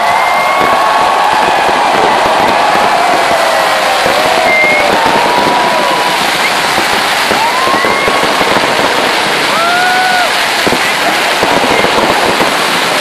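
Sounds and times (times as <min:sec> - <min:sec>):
crowd voices calling out: 0:00.0 - 0:13.0
fireworks crackling and popping: 0:00.0 - 0:13.0.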